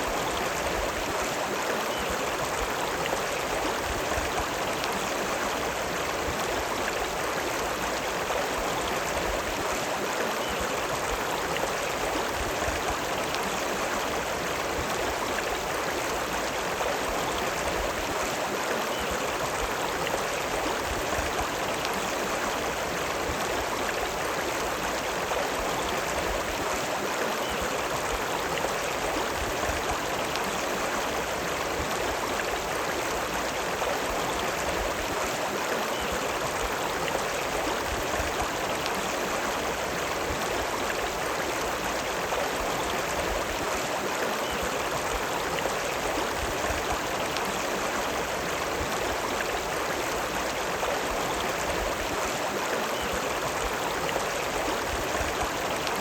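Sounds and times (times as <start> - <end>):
river flowing water: 0.0 - 56.0.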